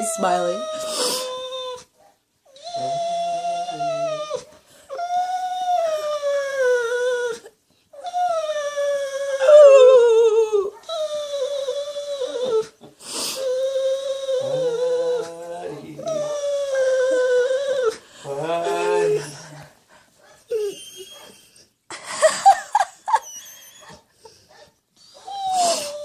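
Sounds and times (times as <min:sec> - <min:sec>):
dog whining: 0:00.0 - 0:19.7, 0:20.4 - 0:21.7, 0:22.7 - 0:26.0.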